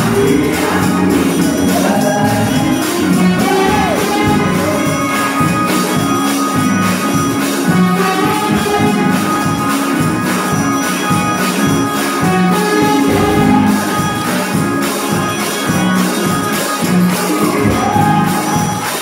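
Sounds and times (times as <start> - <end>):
electronic keyboard chords: 0.0 - 19.0
tambourine shaking: 0.0 - 19.0.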